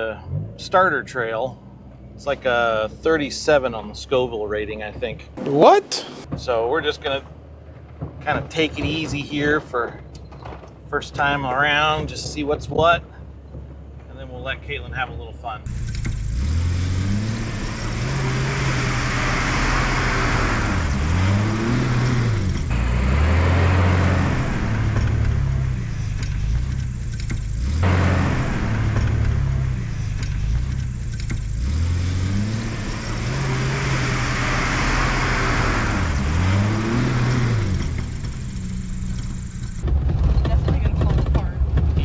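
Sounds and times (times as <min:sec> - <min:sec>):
car engine rising and dipping: 0:00.0 - 0:42.0
wind and tyre noise: 0:06.1 - 0:42.0.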